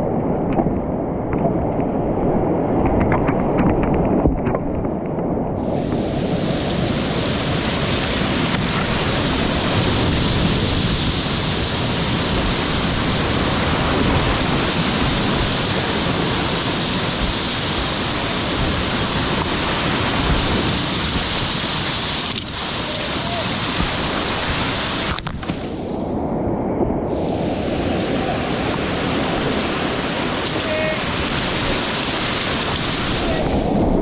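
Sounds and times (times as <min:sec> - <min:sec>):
mountain stream rushing: 0:00.0 - 0:25.9, 0:27.1 - 0:34.0
wind on microphone: 0:00.0 - 0:34.0.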